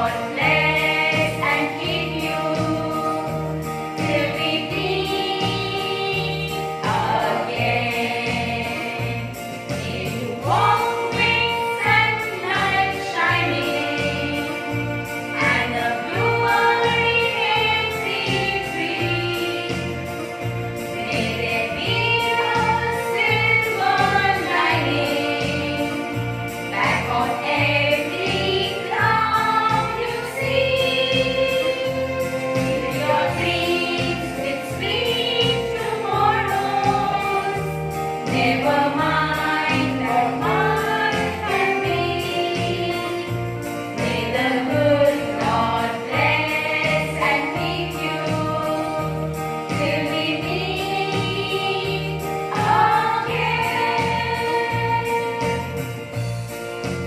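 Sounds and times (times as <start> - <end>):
women singing a hymn: 0.0 - 57.0.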